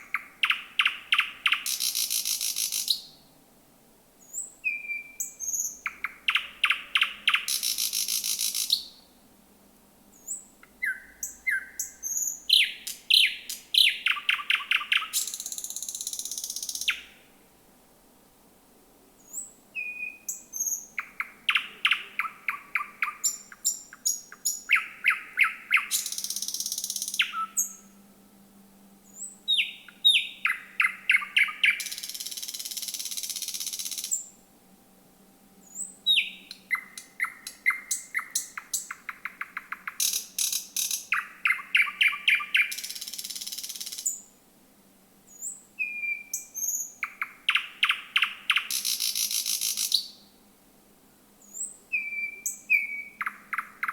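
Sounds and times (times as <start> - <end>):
nightingale singing: 0.0 - 3.3, 4.2 - 9.2, 10.1 - 17.3, 19.2 - 28.0, 29.0 - 34.4, 35.6 - 44.3, 45.3 - 50.4, 51.4 - 53.9.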